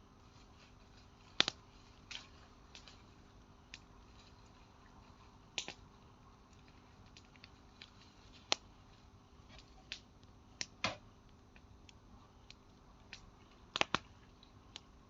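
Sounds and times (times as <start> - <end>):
wood bonfire crackling: 0.1 - 15.0.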